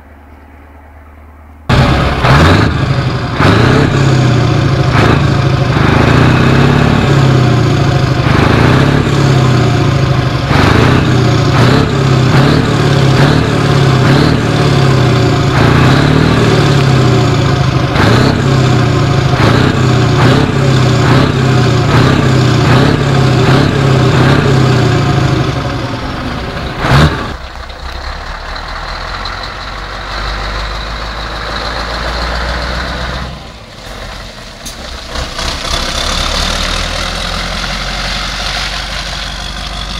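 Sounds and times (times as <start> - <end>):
diesel truck engine running: 0.7 - 39.9.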